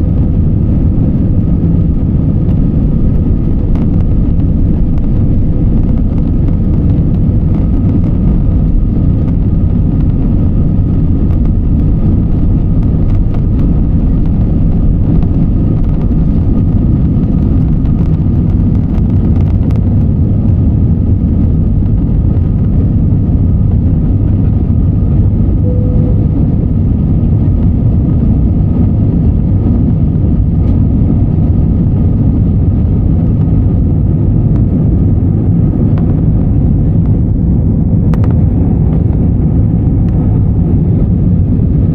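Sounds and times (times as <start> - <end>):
airliner engines rumbling: 0.0 - 41.9
faint steady whine: 0.0 - 41.9
rushing air: 0.0 - 41.9.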